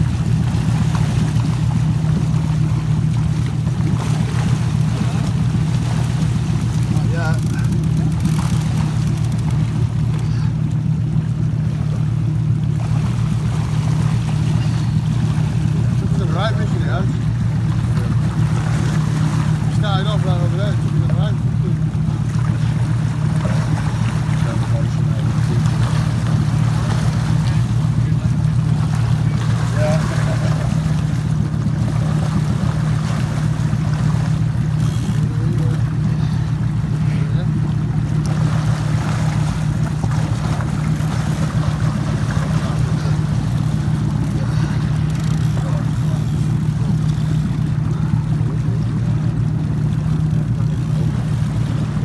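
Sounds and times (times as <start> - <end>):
motorboat engine running: 0.0 - 52.0
water washing along hull: 0.0 - 52.0.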